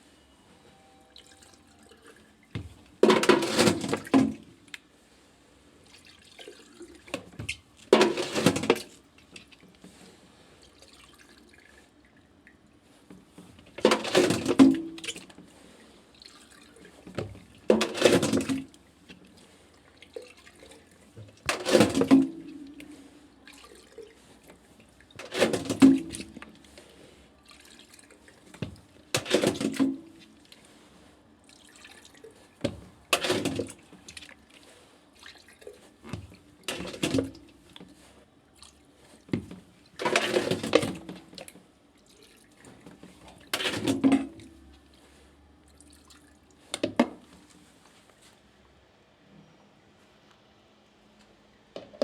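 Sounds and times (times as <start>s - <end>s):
water splashing in washing machine: 1.2s - 4.7s, 5.8s - 47.6s.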